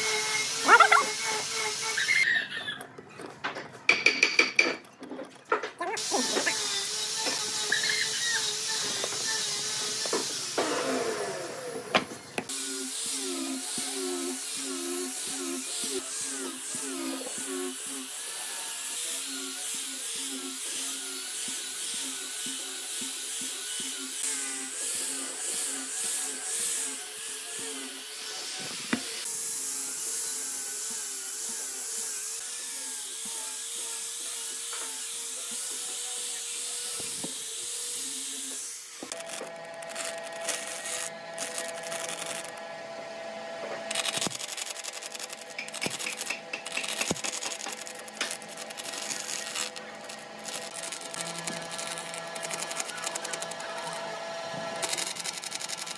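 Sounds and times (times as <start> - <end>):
bandsaw cutting wood: 0.0 - 2.4, 6.0 - 55.9
angle grinder sanding wood: 0.0 - 2.6, 6.0 - 55.9.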